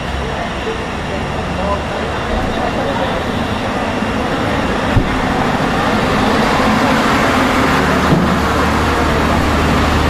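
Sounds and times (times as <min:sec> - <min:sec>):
road noise hiss: 0:00.0 - 0:10.0
vehicle engine hum: 0:00.0 - 0:10.0.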